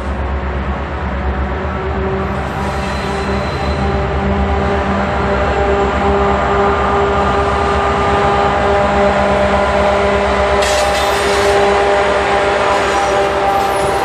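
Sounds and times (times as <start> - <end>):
locomotive engine drone: 0.0 - 14.0.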